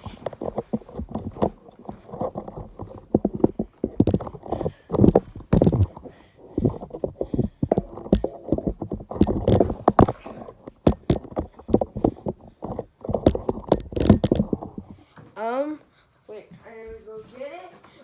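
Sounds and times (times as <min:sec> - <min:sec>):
objects rustling and clicking: 0:00.0 - 0:15.4.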